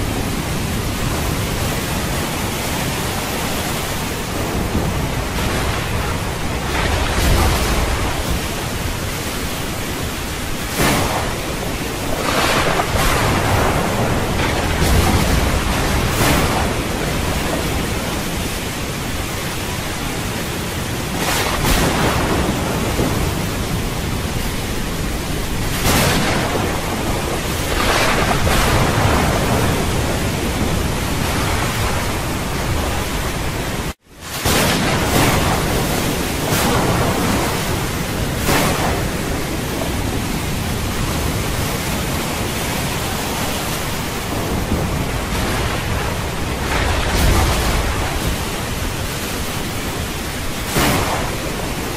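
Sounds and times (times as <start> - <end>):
water surging and splashing: 0.0 - 51.9.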